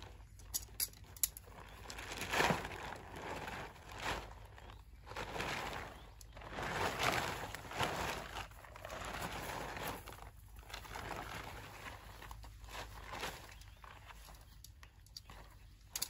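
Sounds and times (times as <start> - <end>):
nylon tent fabric rustling: 1.4 - 16.0.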